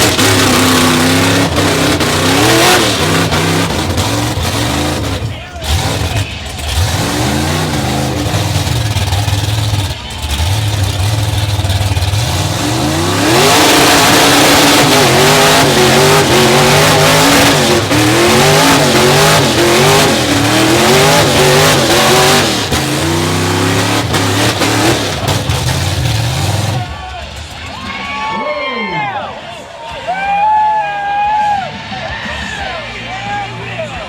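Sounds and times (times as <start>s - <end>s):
spinning tires hissing: 0.0s - 28.2s
truck engine revving: 0.0s - 28.2s.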